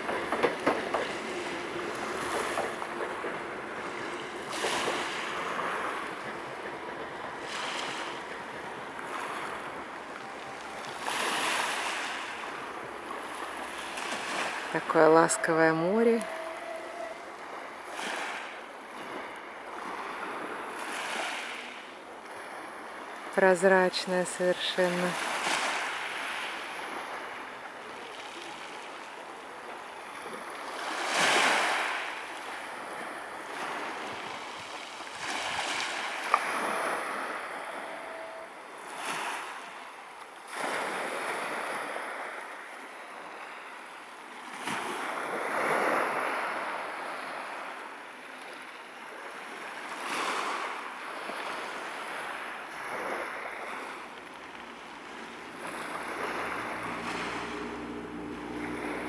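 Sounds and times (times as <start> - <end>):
waves washing onto pebbles: 0.0 - 47.9, 49.2 - 59.0.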